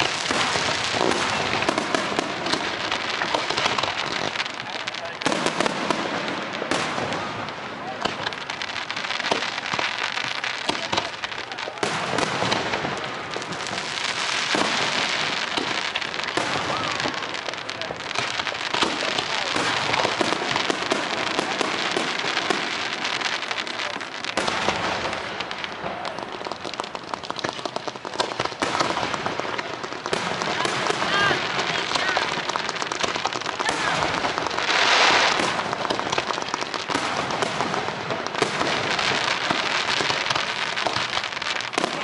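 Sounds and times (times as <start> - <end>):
fireworks crackling and popping: 0.0 - 42.0
loud fireworks bangs: 0.0 - 42.0.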